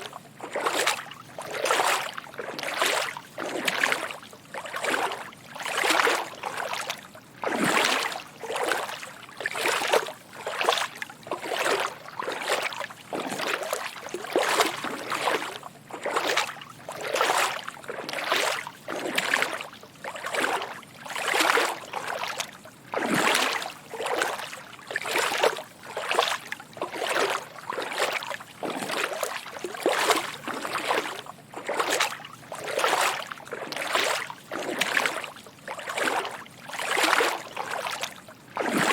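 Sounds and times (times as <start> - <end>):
footsteps wading through water: 0.0 - 38.9.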